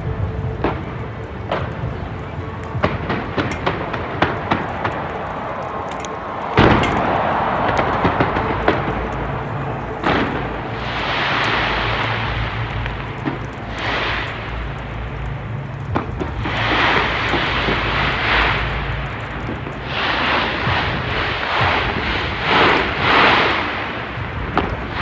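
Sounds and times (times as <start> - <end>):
fireworks crackling: 0.0 - 25.0
fireworks pops and cracks: 0.0 - 25.0
heavy fireworks boom: 0.0 - 25.0.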